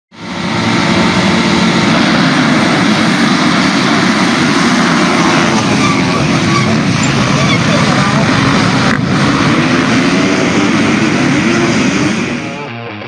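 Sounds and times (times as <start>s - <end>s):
motocross bikes at high throttle: 0.1s - 13.0s.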